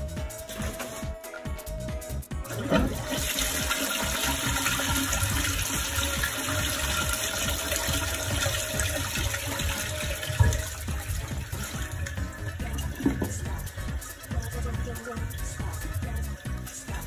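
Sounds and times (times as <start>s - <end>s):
toilet water rushing: 0.2s - 1.6s, 2.3s - 17.0s.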